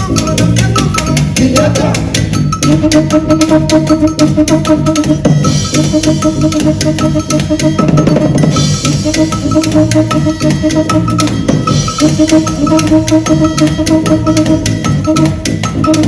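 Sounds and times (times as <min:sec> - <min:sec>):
bass line: 0:00.0 - 0:16.0
drum beat: 0:00.0 - 0:16.0
pitched percussion notes: 0:00.0 - 0:16.0.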